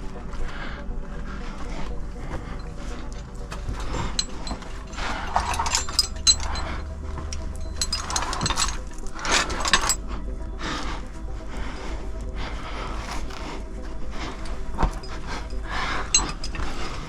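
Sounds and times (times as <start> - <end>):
metal climbing gear clinking: 0.0 - 17.0
scraping and rustling against rock: 0.0 - 17.0.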